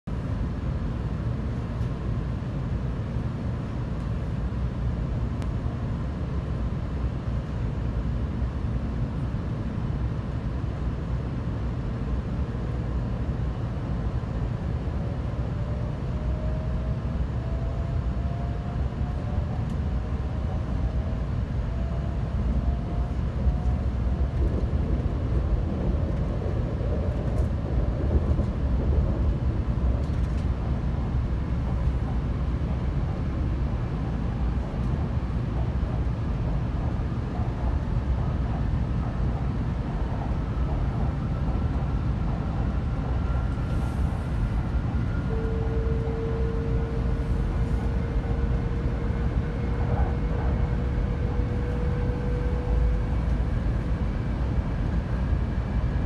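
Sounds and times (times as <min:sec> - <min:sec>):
train cabin low rumble: 0:00.1 - 0:56.0.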